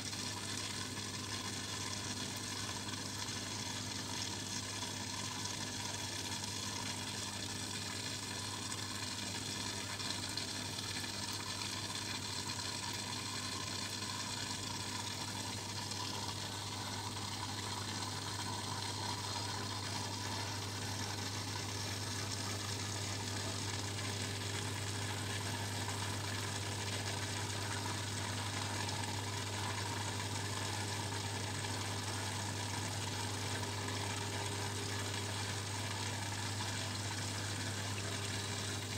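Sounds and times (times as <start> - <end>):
aquarium pump humming: 0.0 - 38.9.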